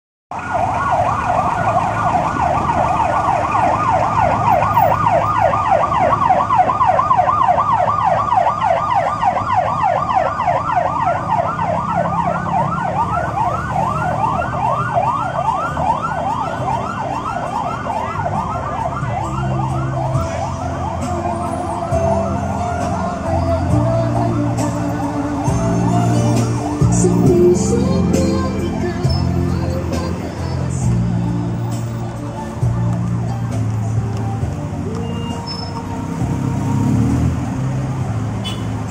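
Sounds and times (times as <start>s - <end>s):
vehicle siren yelping: 0.3s - 32.8s.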